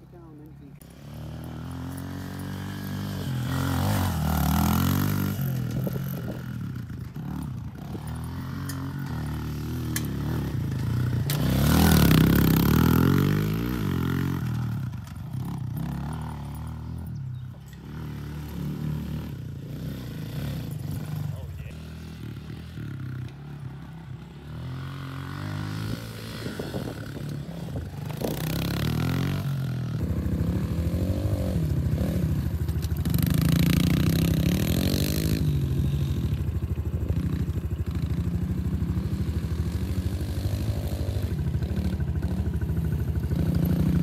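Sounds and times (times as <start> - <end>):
small motorbike engine revving: 0.8 - 44.0.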